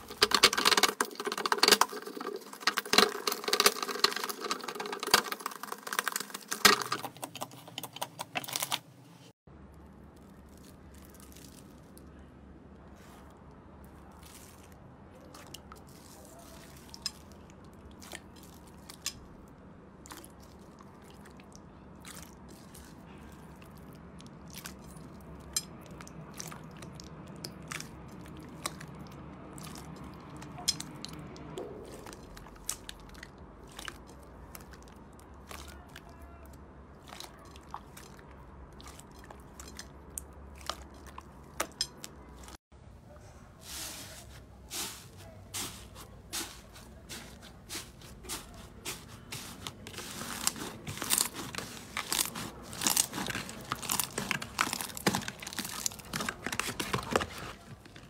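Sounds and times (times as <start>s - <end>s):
slime crunching and popping: 0.0s - 8.8s, 9.7s - 12.2s, 13.8s - 42.6s, 46.4s - 58.0s.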